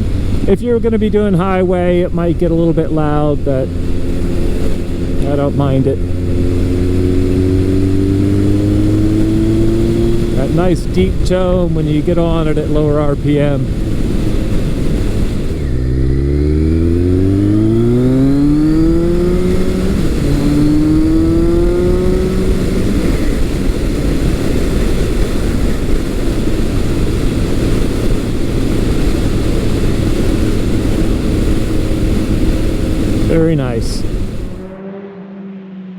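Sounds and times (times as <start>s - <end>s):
motorcycle engine accelerating: 0.0s - 35.9s
rushing wind noise: 0.0s - 35.9s.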